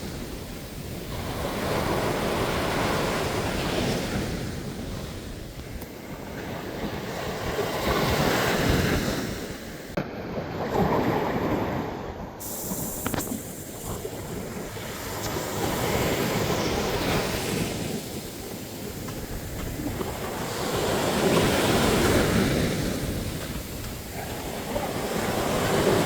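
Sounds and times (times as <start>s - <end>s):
ocean surf breaking on shore: 0.0s - 26.0s.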